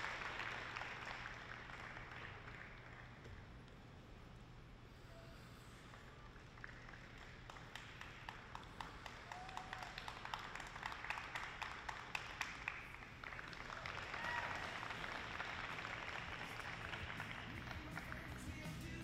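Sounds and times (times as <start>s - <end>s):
audience clapping: 0.0s - 3.6s, 5.9s - 19.0s.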